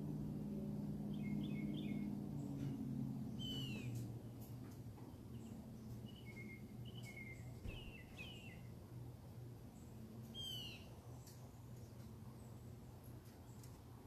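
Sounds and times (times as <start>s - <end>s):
steady low hum: 0.0s - 14.0s
wild birds chirping: 0.0s - 14.0s.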